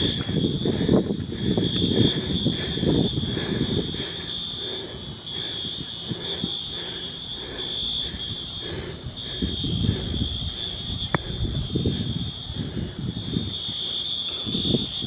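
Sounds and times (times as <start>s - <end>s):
distant fire alarm horns: 0.0s - 15.0s
low rumbling noise: 0.0s - 15.0s.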